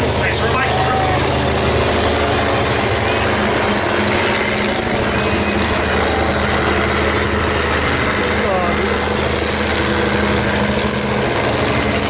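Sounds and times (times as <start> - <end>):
monster truck engine running: 0.0 - 12.0.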